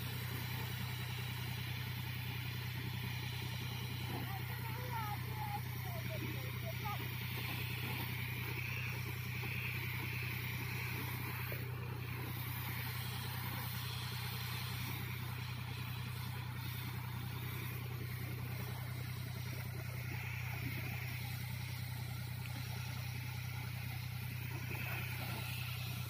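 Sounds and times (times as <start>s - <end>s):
power sprayer engine humming: 0.0s - 26.0s.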